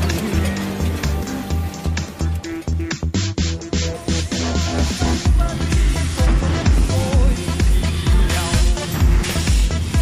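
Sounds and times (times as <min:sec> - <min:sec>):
music with fast bass beat: 0:00.0 - 0:10.0.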